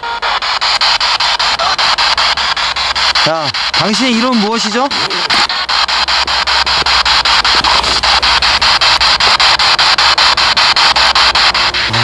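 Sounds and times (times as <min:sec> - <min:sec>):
choppy radio static: 0:00.0 - 0:12.0.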